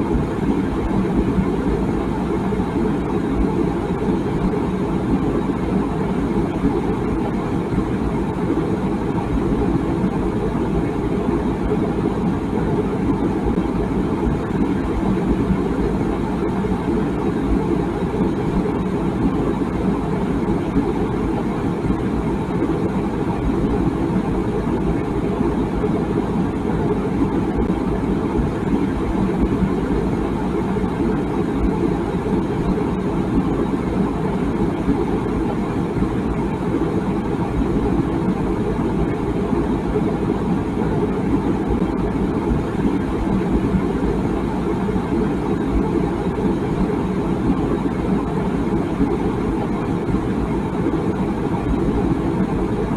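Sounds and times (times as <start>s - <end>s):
water boiling in kettle: 0.1s - 52.9s.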